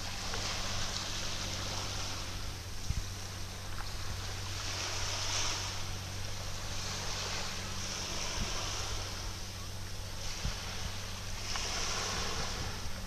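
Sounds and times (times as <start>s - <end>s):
low machinery hum: 0.0s - 13.0s
water washing around a yacht: 0.0s - 13.0s.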